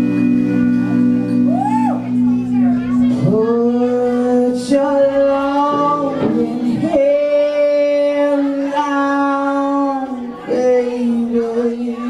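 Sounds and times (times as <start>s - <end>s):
live band holding a chord: 0.0s - 12.0s.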